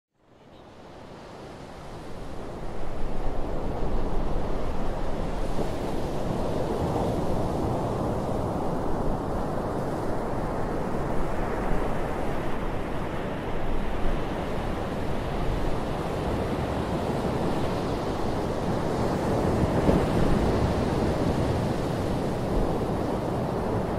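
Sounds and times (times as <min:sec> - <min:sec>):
surf washing over sandy beach: 0:01.0 - 0:23.9.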